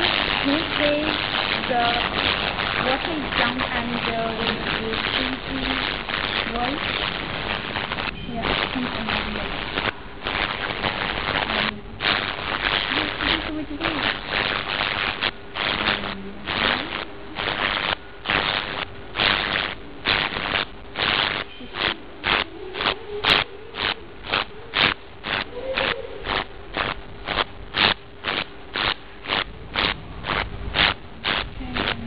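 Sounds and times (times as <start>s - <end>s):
faint steady hum: 0.0s - 32.0s
pulsed water hissing and sputtering: 0.0s - 32.0s.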